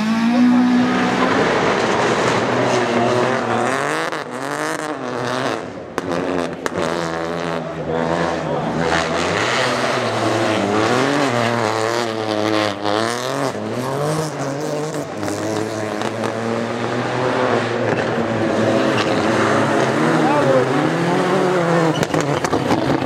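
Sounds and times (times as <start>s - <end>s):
rally car engines revving: 0.0s - 23.0s.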